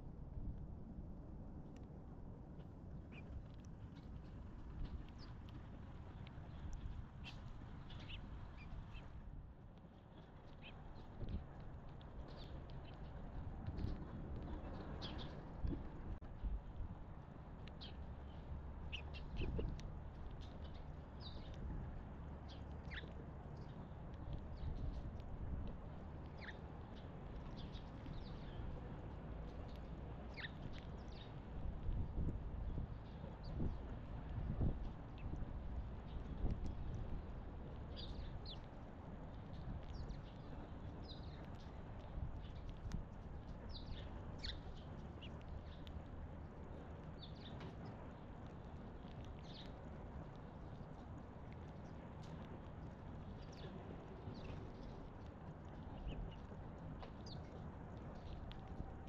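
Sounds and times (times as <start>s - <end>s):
low background rumble: 0.0s - 59.0s
songbirds chirping: 4.9s - 9.1s, 9.9s - 15.8s, 16.4s - 59.0s.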